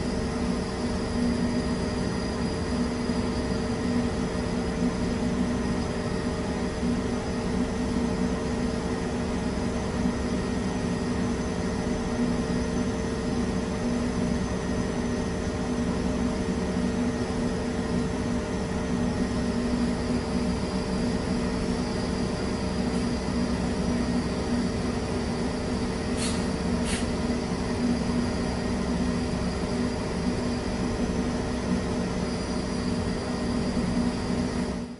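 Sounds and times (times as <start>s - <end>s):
machine hum and air hiss: 0.0s - 34.9s.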